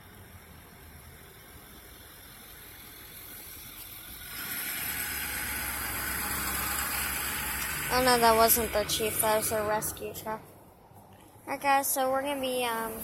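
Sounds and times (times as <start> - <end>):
road noise: 0.0 - 13.0
truck engine approaching: 0.0 - 13.0.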